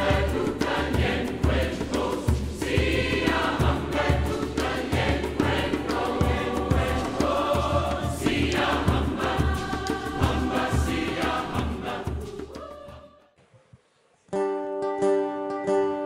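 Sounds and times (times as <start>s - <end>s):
steady drum beat: 0.0s - 13.1s
song with singing: 0.0s - 13.5s.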